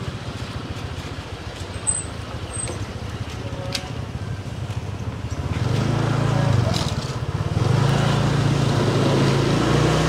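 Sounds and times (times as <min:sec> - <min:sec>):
motorbike engine running: 0:00.0 - 0:09.7.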